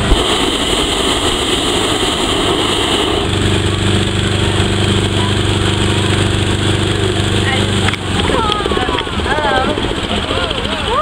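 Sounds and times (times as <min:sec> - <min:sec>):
rushing noise: 0:00.0 - 0:10.2
small fan engine running: 0:00.0 - 0:11.0.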